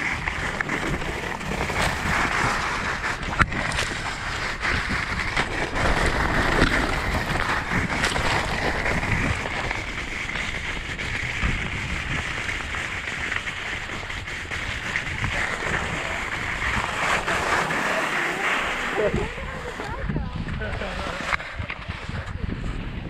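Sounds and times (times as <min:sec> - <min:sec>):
skis scraping over snow: 0:00.0 - 0:23.0
wind buffeting microphone: 0:00.0 - 0:23.0.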